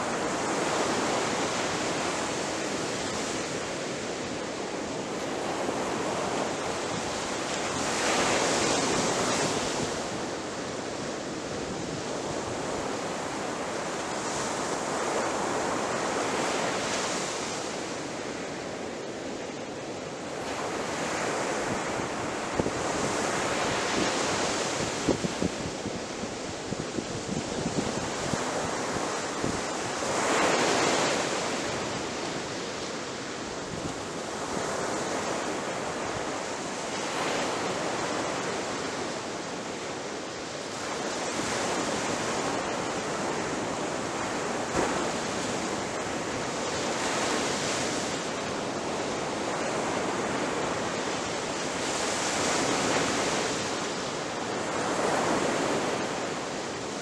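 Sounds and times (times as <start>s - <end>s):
ocean waves crashing on shore: 0.0s - 57.0s.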